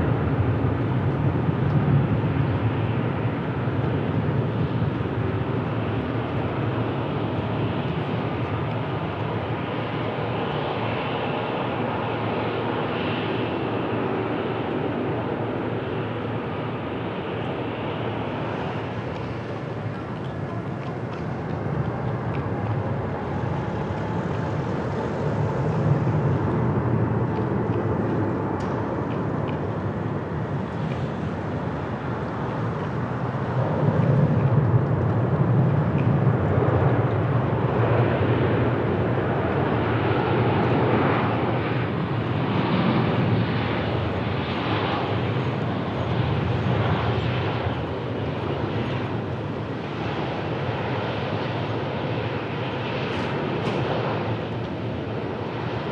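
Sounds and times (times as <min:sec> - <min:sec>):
jet engines rumbling: 0:00.0 - 0:55.9.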